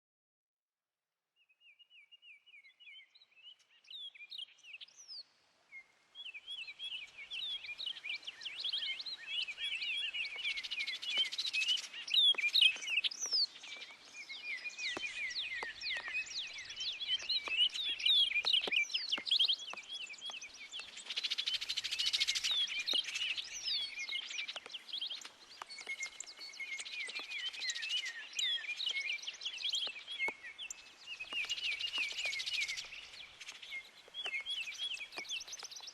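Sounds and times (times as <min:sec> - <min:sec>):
songbirds chirping: 0:01.4 - 0:35.9.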